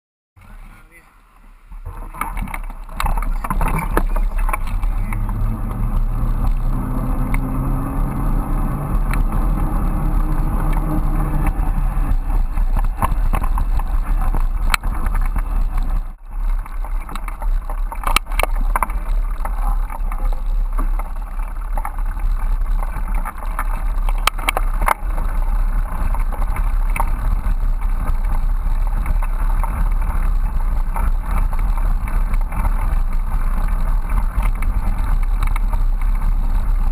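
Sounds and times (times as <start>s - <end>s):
bicycle rolling rumble: 0.4s - 36.9s
hum rising in pitch: 0.5s - 36.9s
wind noise on microphone: 1.6s - 36.9s.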